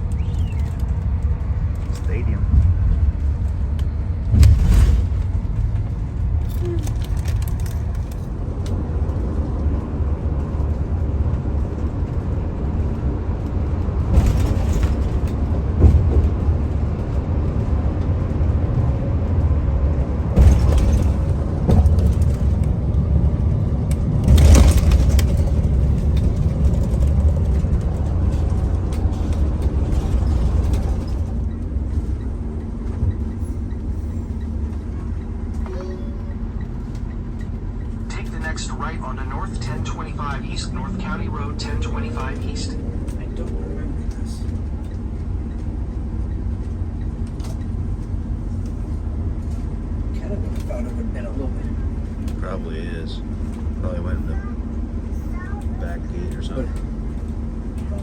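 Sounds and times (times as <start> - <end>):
vehicle road rumble: 0.0 - 58.0.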